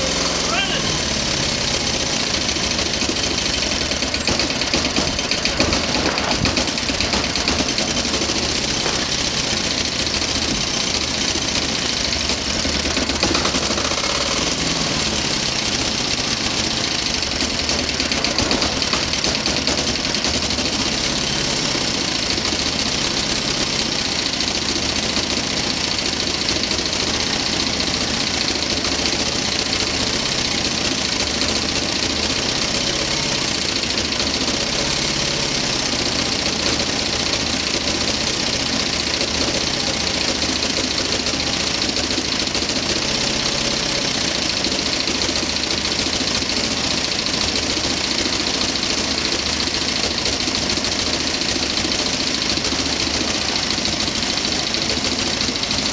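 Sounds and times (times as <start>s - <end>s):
diesel generator engine running: 0.0s - 55.9s.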